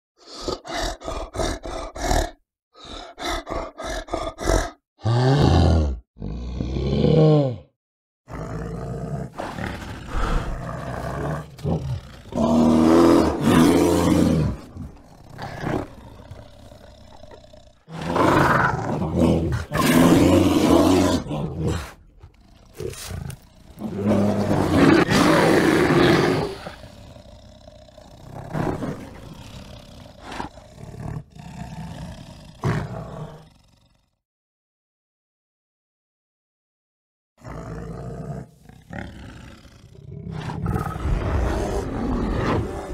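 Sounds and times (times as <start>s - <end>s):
bear growling: 0.2s - 7.7s, 8.3s - 34.1s, 37.4s - 42.9s
bear roaring: 0.3s - 7.7s, 8.3s - 34.0s, 37.4s - 42.9s.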